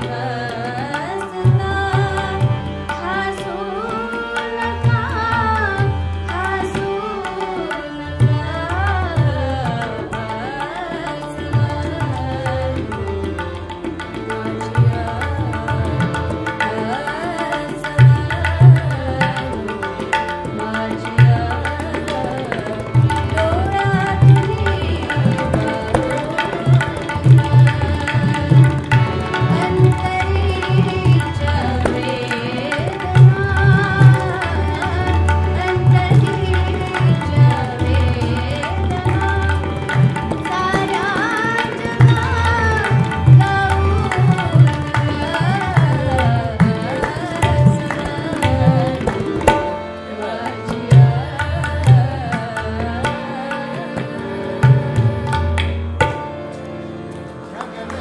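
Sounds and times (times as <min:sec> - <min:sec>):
woman singing: 0:00.0 - 0:55.6, 0:57.6 - 0:58.0
harmonium: 0:00.0 - 0:58.0.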